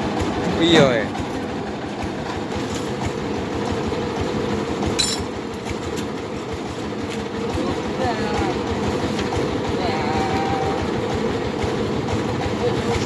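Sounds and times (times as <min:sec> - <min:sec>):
rice milling machine rattling: 0:00.0 - 0:13.0.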